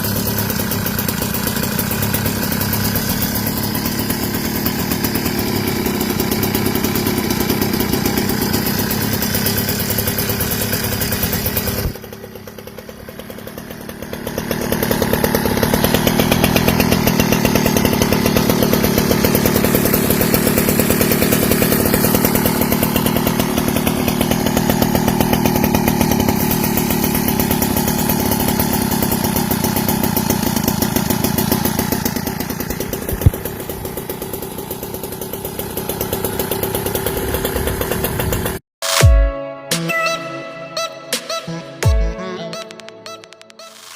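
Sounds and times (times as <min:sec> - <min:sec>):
small two-stroke engine revving: 0:00.0 - 0:38.6.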